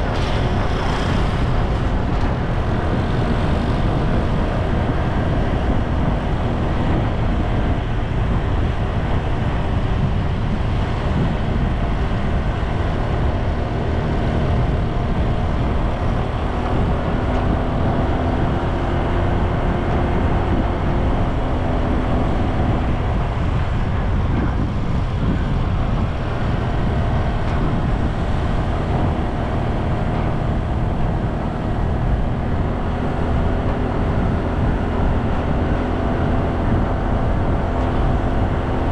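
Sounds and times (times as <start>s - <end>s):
road noise: 0.0s - 38.9s
vehicle engine drone: 0.0s - 38.9s.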